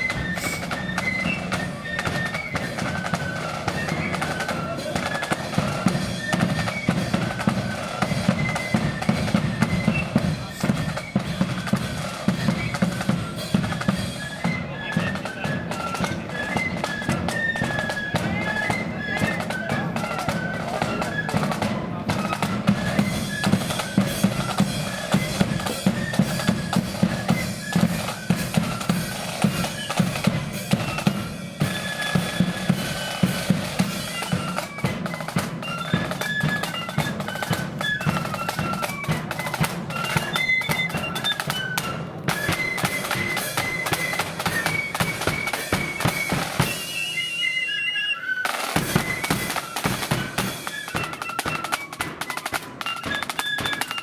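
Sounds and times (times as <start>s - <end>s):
flute melody: 0.0s - 54.0s
snare drums: 0.0s - 54.0s.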